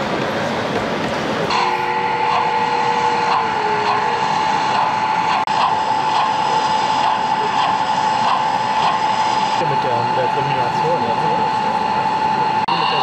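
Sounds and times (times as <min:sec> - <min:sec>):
model locomotive whine: 0:00.0 - 0:13.0.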